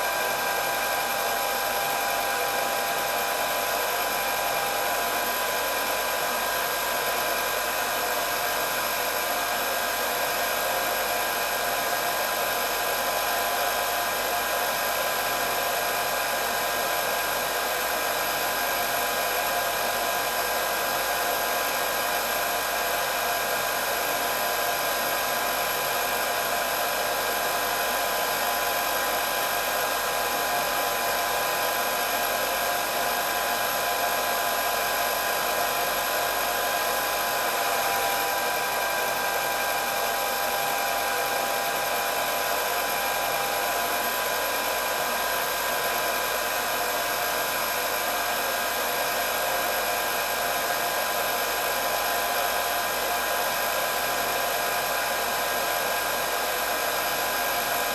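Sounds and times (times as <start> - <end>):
hair dryer running: 0.0 - 57.9.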